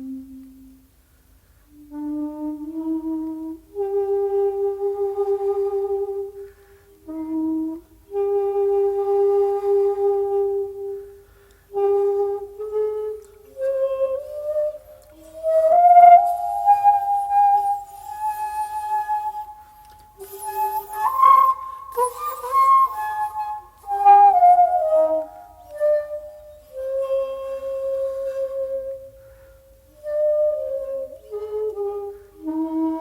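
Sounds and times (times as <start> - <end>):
bamboo flute playing: 0.0 - 1.0, 1.7 - 33.0.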